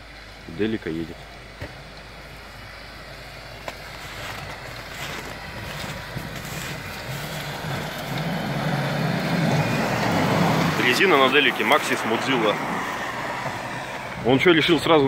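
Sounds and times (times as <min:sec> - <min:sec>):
van engine running under load: 0:00.0 - 0:15.0.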